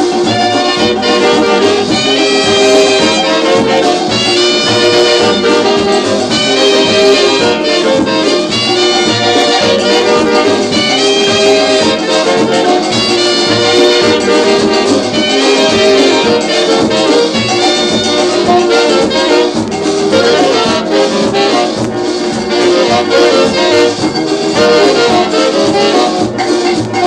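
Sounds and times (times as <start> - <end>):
dance orchestra with brass horns: 0.0 - 27.0.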